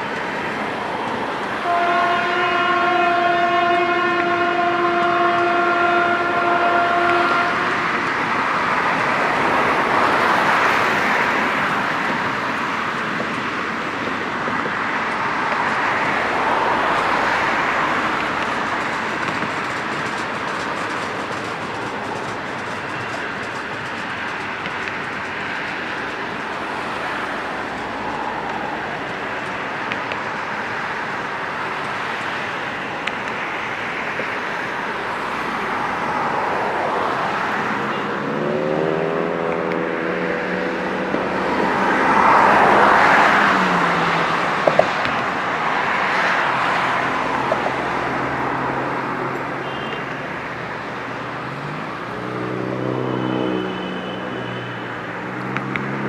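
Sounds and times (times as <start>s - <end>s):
road traffic passing: 0.0s - 56.0s
vehicle engine hum: 0.0s - 56.0s.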